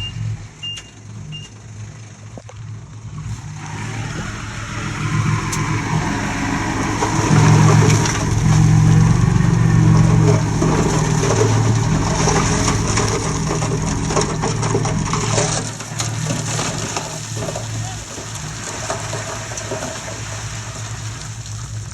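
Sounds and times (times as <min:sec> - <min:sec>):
bulldozer engine under load: 0:00.0 - 0:21.9.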